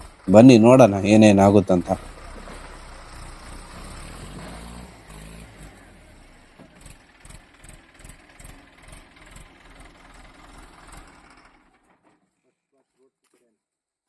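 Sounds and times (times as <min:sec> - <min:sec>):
tractor engine running: 0:00.0 - 0:12.3.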